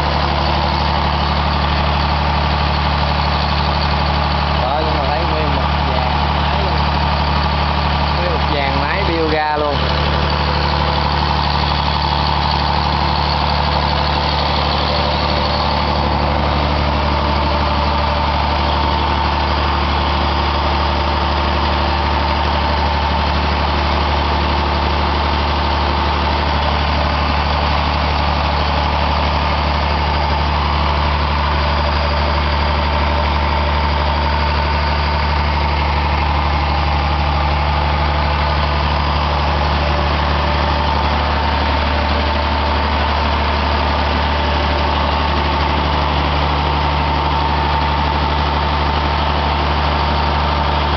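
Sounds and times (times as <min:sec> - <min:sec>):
engine running steadily: 0:00.0 - 0:50.9
engine whine: 0:00.0 - 0:50.9.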